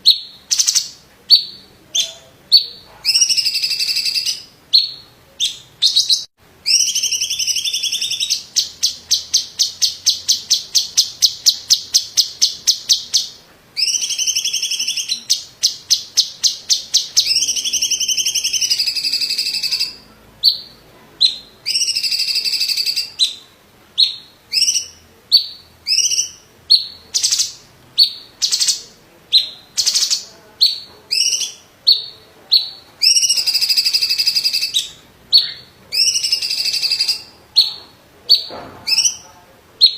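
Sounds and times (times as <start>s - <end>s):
bird singing high phrases: 0.0s - 39.9s.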